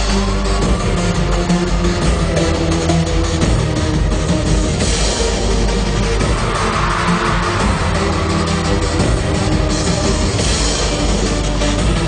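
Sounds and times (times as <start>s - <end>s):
heavy rock concert music: 0.0s - 12.0s.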